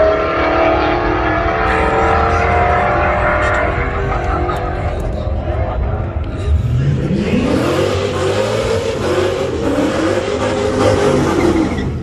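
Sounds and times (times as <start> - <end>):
truck engine accelerating: 0.0 - 12.0.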